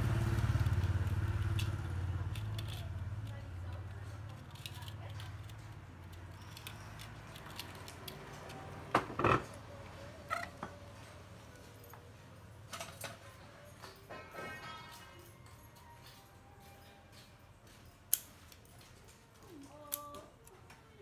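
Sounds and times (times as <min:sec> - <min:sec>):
clicks and clatter of handling wire: 0:00.3 - 0:09.6, 0:12.7 - 0:21.0.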